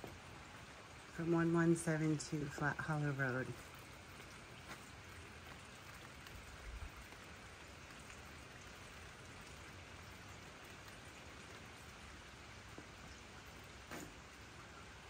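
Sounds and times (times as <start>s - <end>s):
light rain on grass and pavement: 0.0s - 15.0s.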